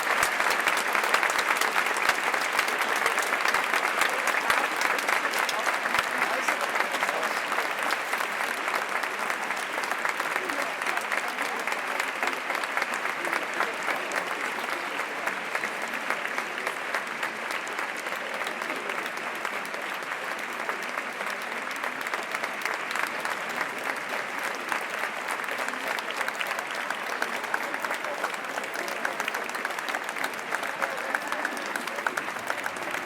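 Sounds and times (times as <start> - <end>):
crowd applauding: 0.0 - 33.0
murmur of voices: 0.0 - 33.0.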